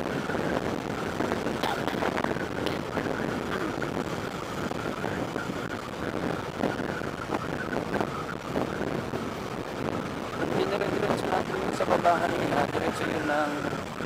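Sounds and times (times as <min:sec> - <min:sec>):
road rush: 0:00.0 - 0:14.0
wind buffeting microphone: 0:00.0 - 0:14.0.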